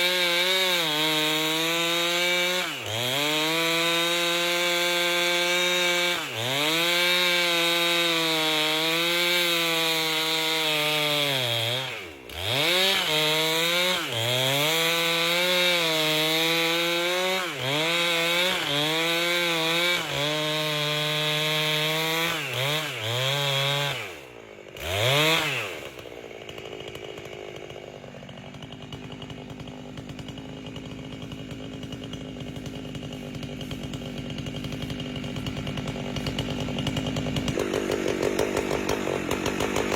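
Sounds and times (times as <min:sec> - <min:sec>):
chainsaw cutting log: 0:00.0 - 0:39.9
chainsaw idling: 0:00.0 - 0:39.9.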